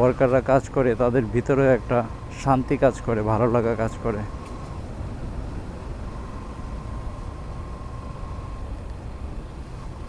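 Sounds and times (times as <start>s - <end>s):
faint thin whine: 0.0s - 10.0s
wind noise: 0.0s - 10.0s.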